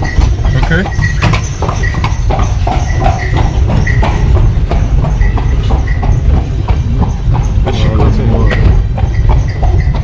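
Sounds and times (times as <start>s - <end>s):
carriage wheels rattling on stone: 0.0s - 10.0s
horse hooves clopping: 0.0s - 10.0s.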